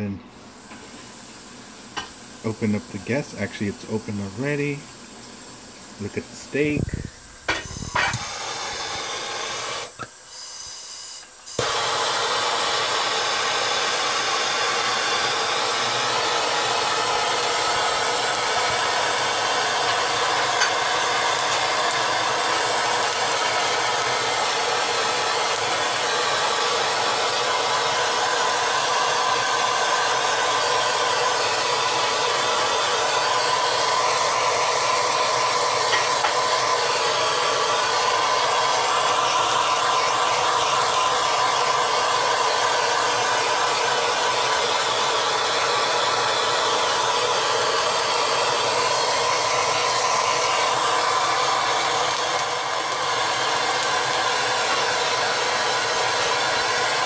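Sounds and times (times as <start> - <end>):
hand torch flame rushing: 6.5 - 10.4, 11.5 - 57.0
hand torch lighting: 6.6 - 10.4, 11.2 - 57.0.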